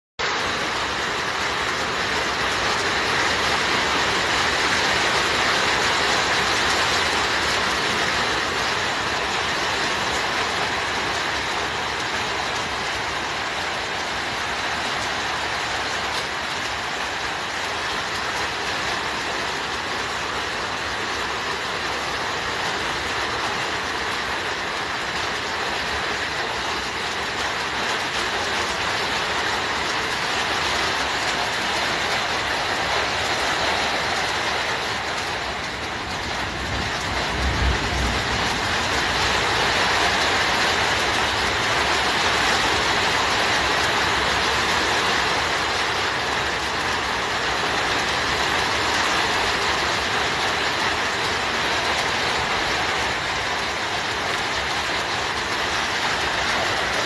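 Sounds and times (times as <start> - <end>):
heavy rain pouring: 0.2 - 57.0.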